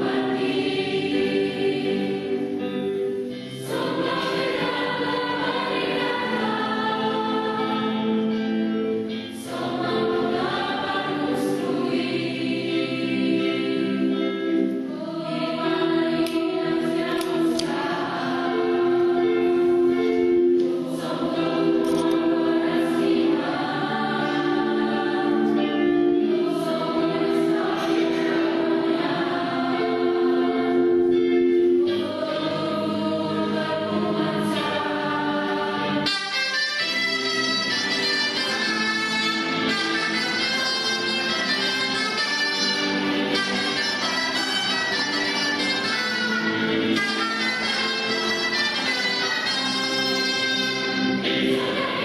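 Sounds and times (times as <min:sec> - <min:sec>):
choir singing in harmony: 0:00.0 - 0:52.0.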